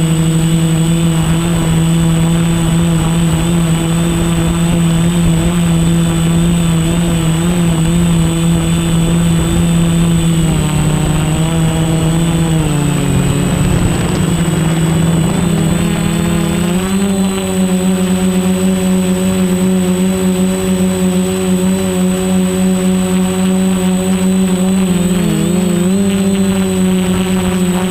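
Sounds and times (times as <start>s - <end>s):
quadcopter propellers buzzing: 0.0s - 27.9s.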